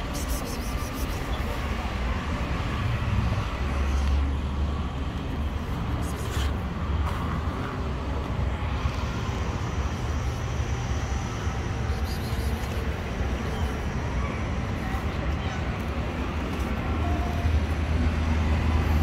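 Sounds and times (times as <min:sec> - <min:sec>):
low rumble of road traffic: 0:00.0 - 0:19.0.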